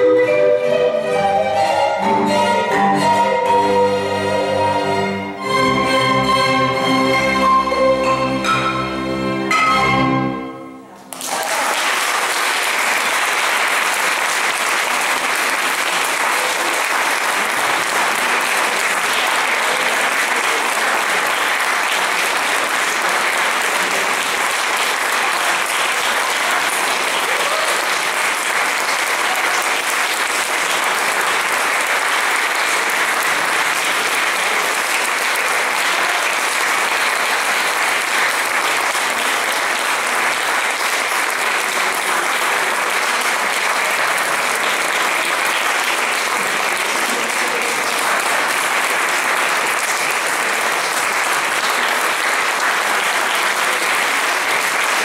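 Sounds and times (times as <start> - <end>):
audience applause: 11.0 - 55.0.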